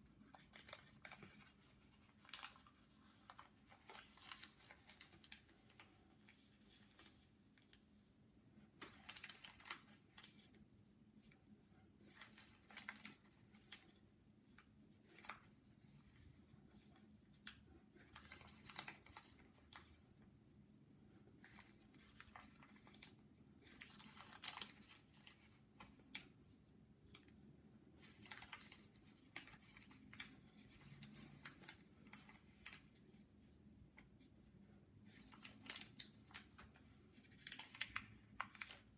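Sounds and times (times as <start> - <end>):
paper being folded and creased: 0.0 - 20.3, 21.1 - 38.9.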